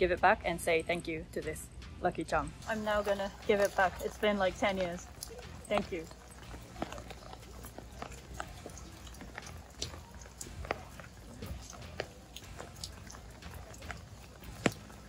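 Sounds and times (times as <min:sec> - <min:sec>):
raindrops tapping on an umbrella: 0:02.6 - 0:15.0.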